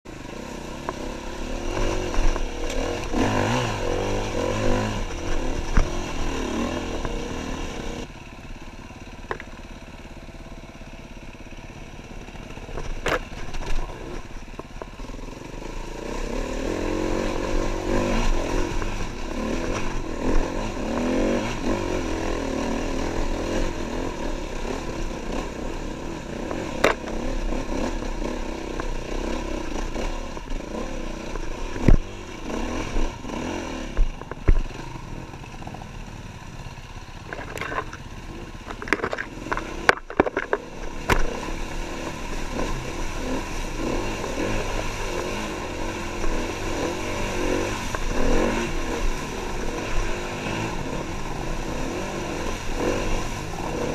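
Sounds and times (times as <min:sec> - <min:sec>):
motorcycle engine revving: 0:00.1 - 0:53.9.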